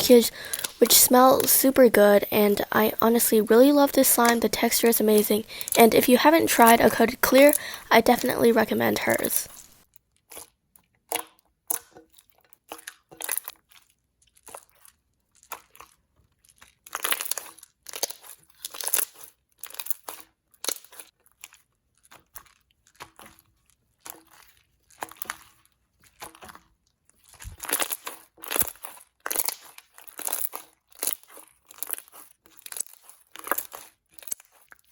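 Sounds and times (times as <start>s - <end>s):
slime squishing: 0.0s - 11.2s, 12.1s - 34.9s.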